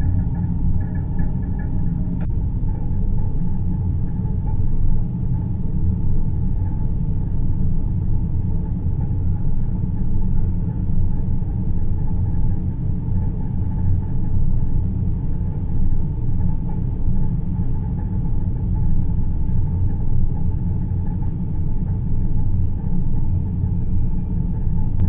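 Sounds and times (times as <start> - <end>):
deep rumbling noise: 0.0 - 25.0
faint steady hum: 0.0 - 25.0.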